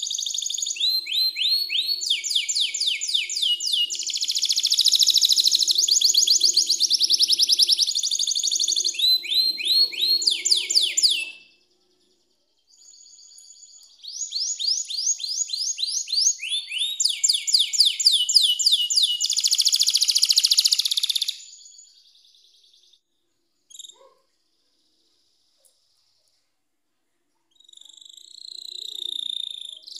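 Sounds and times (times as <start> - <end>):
canary singing: 0.0 - 23.0, 27.5 - 29.9.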